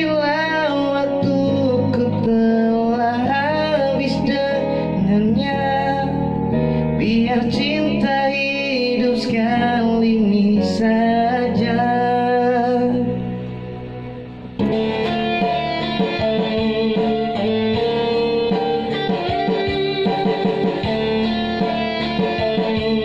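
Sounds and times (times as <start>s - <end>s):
man singing into microphone: 0.0s - 13.6s, 14.6s - 20.2s
backing track with guitar chords: 0.0s - 23.0s.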